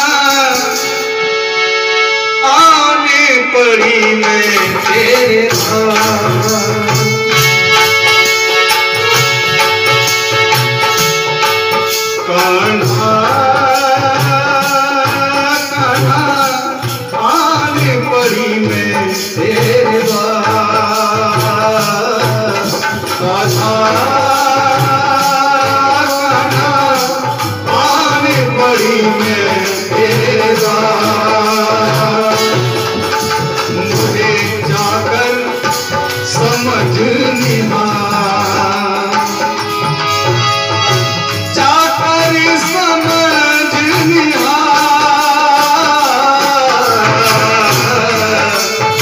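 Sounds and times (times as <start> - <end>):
hand drum beat: 4.0 - 49.0.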